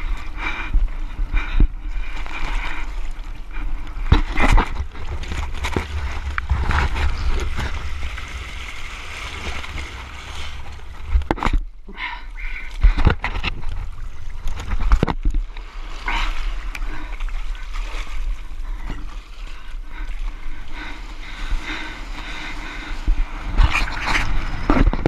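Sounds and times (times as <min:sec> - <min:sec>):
water lapping and splashing: 0:00.0 - 0:25.0
wind rumble on microphone: 0:00.0 - 0:25.0.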